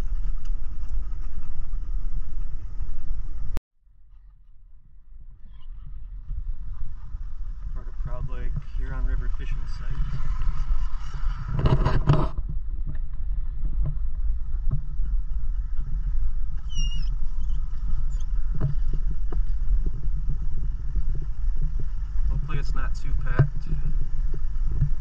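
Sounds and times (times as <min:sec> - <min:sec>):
vehicle engine and tyres rumbling: 0:00.0 - 0:03.6, 0:04.5 - 0:25.0.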